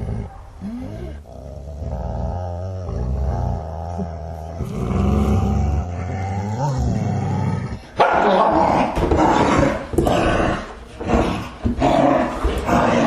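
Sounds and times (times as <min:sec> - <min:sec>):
dog growling: 0:00.0 - 0:13.0.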